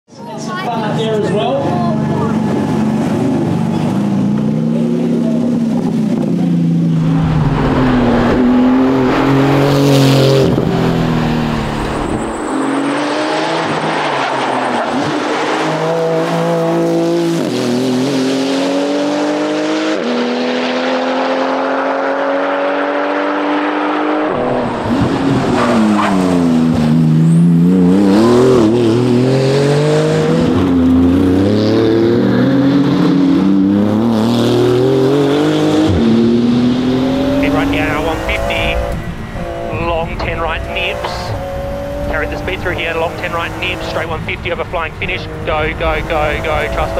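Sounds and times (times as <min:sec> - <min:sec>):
sports car engine at full throttle: 0:00.1 - 0:46.9.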